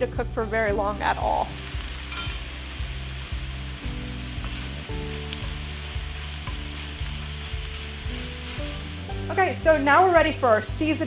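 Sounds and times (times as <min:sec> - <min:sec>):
background music with steady beat: 0:00.0 - 0:11.0
food sizzling in a pan: 0:00.4 - 0:11.0.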